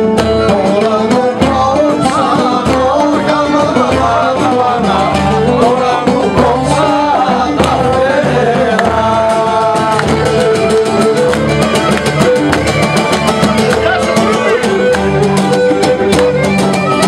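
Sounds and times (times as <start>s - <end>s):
folk dance melody: 0.0s - 17.0s
lute strummed rapidly: 0.0s - 17.0s.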